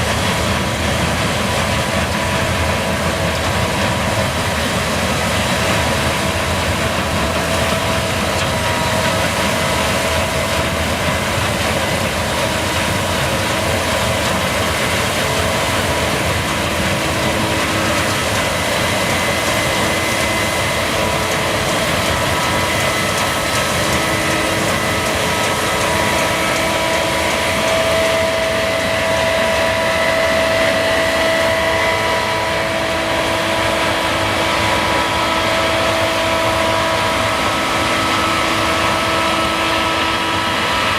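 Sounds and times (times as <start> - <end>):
combine harvester droning: 0.0 - 40.9
high steady whine: 0.0 - 40.9.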